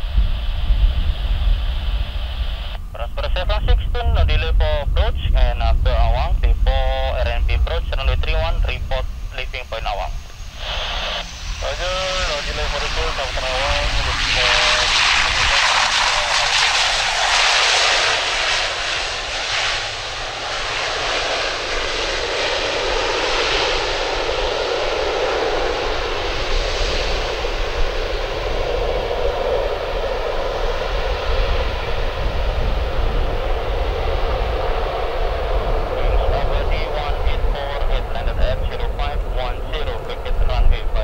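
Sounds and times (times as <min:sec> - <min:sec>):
turboprop engines roaring: 0:00.0 - 0:41.0.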